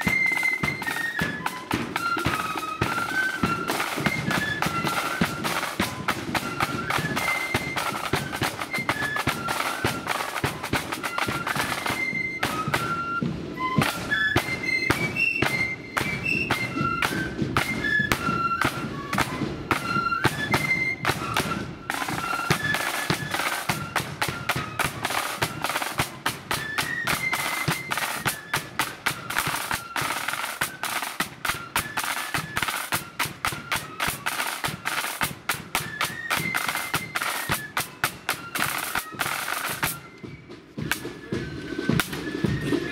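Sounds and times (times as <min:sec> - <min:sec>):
flutes playing melody: 0:00.0 - 0:42.9
rapid snare drumming: 0:00.0 - 0:42.9.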